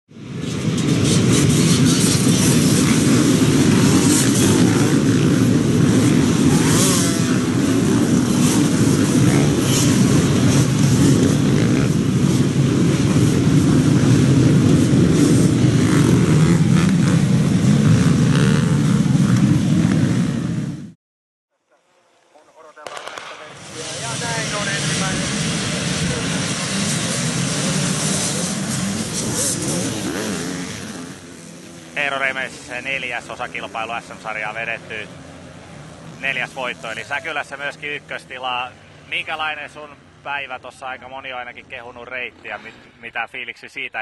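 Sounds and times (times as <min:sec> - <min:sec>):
motorcycle engines revving: 0:00.1 - 0:21.0, 0:22.9 - 0:43.0.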